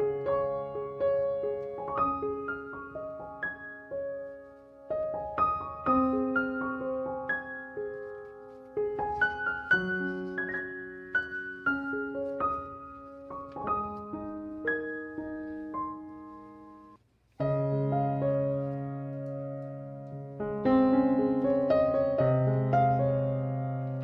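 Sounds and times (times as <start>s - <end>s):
soft piano music: 0.0s - 24.0s.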